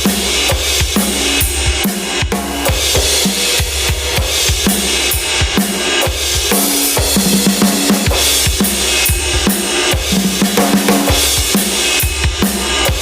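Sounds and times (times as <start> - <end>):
electronic drum kit groove: 0.0 - 13.0.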